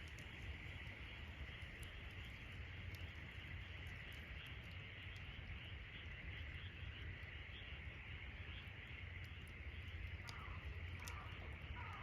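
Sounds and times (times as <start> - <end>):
campfire crackling: 0.0 - 12.0
insects trilling: 0.0 - 12.0.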